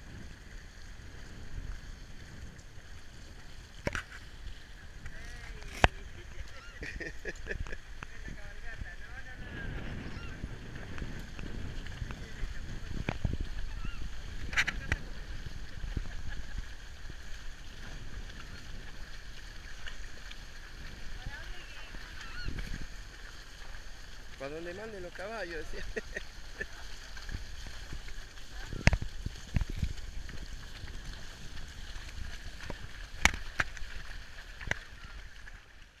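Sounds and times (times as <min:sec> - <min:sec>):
wind rumble on microphone: 0:00.0 - 0:35.6
horses splashing through water: 0:00.0 - 0:36.0.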